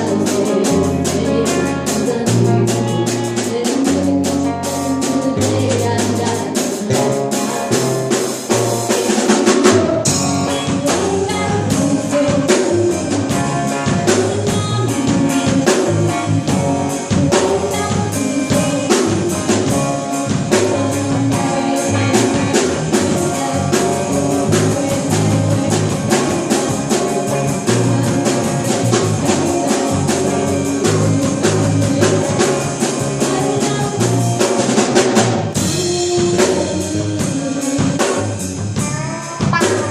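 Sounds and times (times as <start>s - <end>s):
bass: 0.0s - 39.9s
drum kit beat: 0.0s - 39.9s
guitar: 0.0s - 39.9s.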